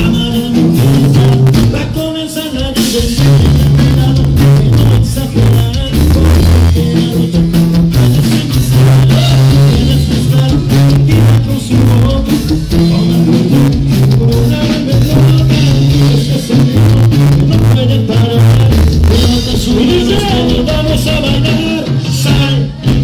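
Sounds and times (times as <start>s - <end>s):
bass line: 0.0s - 23.0s
live rock band playing: 0.0s - 23.0s.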